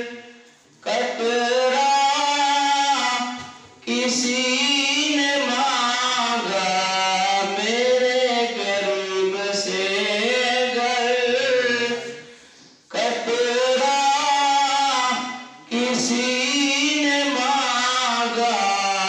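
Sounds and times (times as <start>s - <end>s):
man singing unaccompanied: 0.0s - 12.3s, 12.9s - 19.0s.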